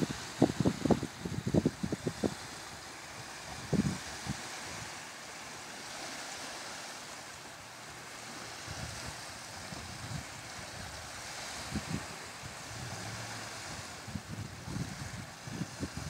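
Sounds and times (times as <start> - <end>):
wind on microphone: 0.0 - 6.9, 8.1 - 16.0
small waves washing on shore: 0.0 - 16.0.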